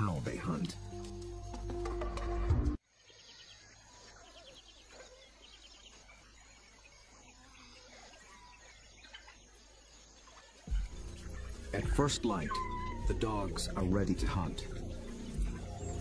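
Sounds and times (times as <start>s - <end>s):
chirping insects: 0.0s - 16.0s
bird calls: 2.9s - 16.0s.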